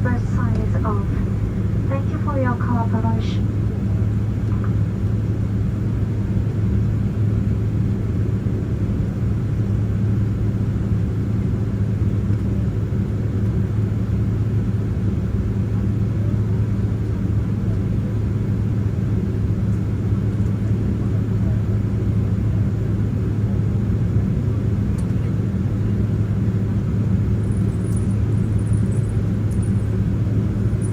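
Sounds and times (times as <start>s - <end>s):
airliner cabin rumble and hum: 0.0s - 30.9s.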